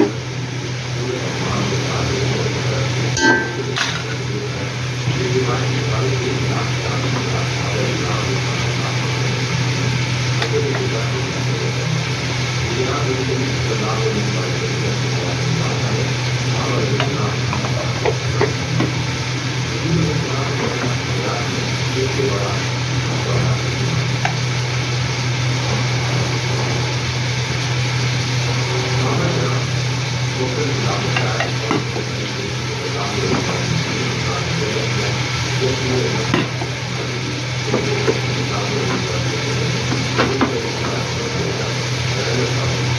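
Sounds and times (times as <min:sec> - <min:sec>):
faint voices: 0:00.0 - 0:42.9
food sizzling in hot oil: 0:00.0 - 0:42.9
machine hum with hiss: 0:00.0 - 0:42.9.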